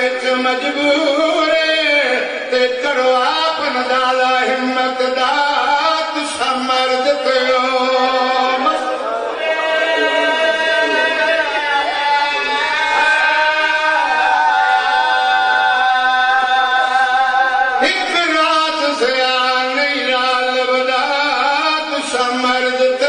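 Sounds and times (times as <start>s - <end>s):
man chanting through microphone: 0.0s - 12.4s, 15.1s - 23.0s.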